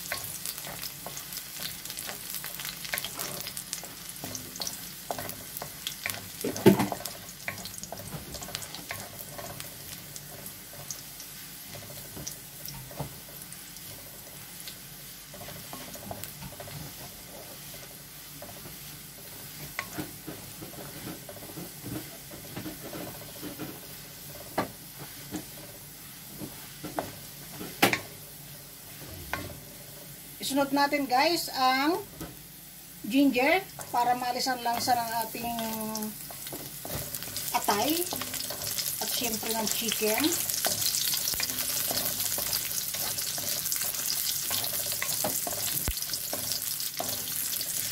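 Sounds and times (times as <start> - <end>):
wooden spatula scraping a wok: 0.0 - 31.5, 33.2 - 47.9
garlic sizzling in oil: 0.0 - 47.9.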